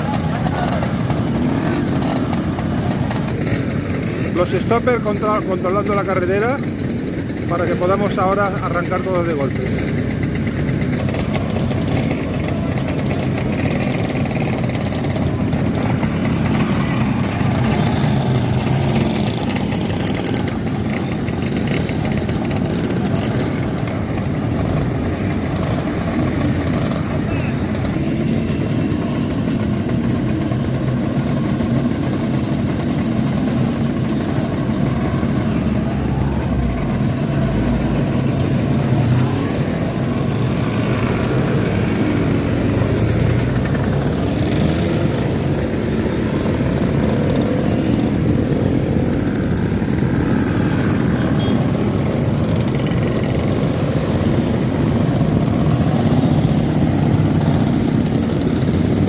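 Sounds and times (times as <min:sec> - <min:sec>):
scooter and motorcycle engines revving: 0:00.0 - 0:59.0.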